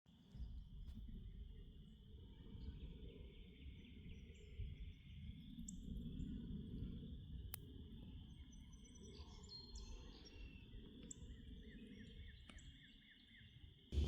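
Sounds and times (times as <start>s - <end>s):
outdoor background noise: 0.1s - 14.0s.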